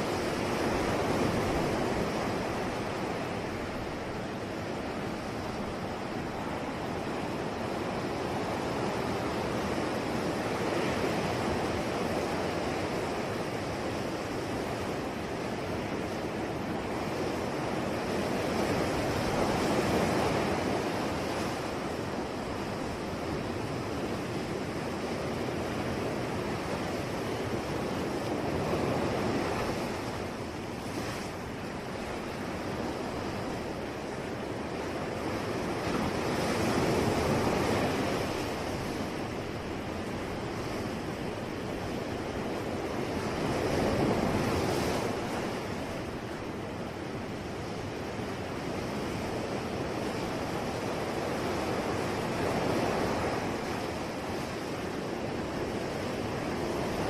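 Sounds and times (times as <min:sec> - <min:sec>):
ocean waves washing onto shore: 0:00.0 - 0:57.0.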